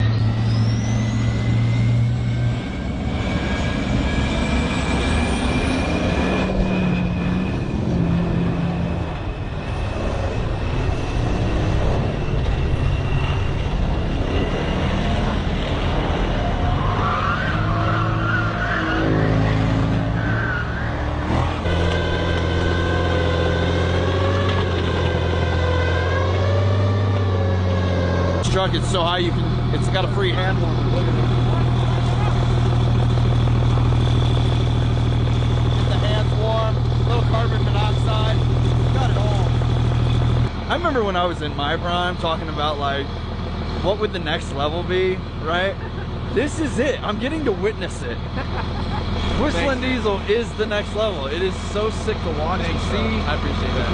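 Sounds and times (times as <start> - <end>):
airplane engine deep drone: 0.0 - 53.9
high engine whine: 0.0 - 53.9.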